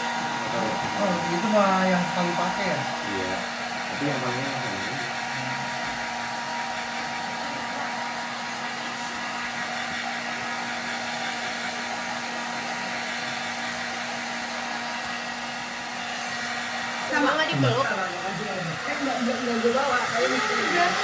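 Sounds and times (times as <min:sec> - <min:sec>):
blow dryer running: 0:00.0 - 0:21.0.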